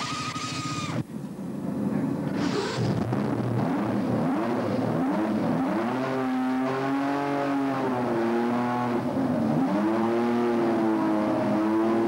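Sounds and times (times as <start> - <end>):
racing car engine at low revs: 0.0 - 12.0.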